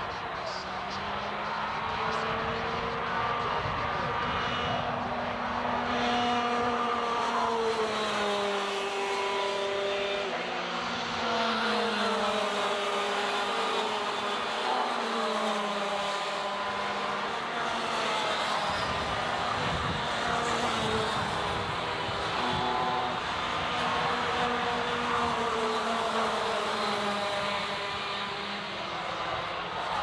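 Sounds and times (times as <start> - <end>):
kart engines buzzing at high revs: 0.0 - 30.0.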